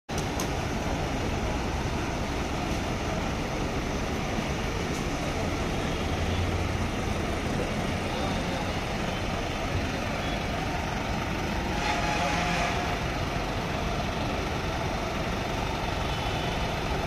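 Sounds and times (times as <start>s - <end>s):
bus diesel engines idling: 0.1s - 17.0s.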